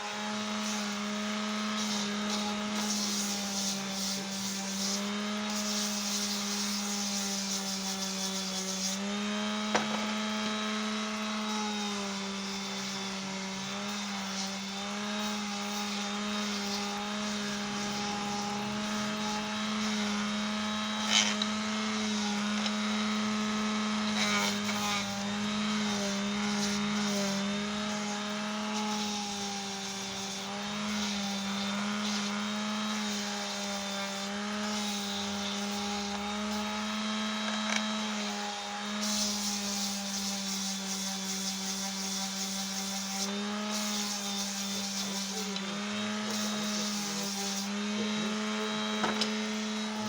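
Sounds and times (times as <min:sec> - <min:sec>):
electric sander humming: 0:00.0 - 0:50.0.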